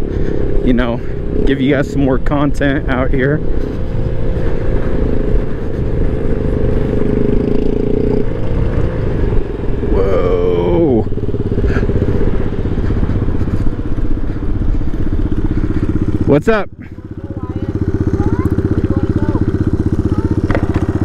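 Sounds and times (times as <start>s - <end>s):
road rumble: 0.0s - 21.0s
scooter engine running: 0.0s - 21.0s
wind: 0.0s - 21.0s.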